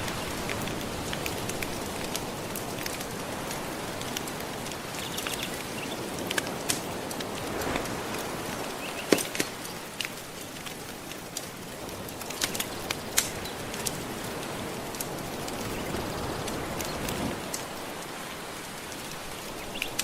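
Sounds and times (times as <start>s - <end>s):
gentle ocean waves: 0.0s - 20.0s
wood fire crackling and popping: 0.0s - 20.0s.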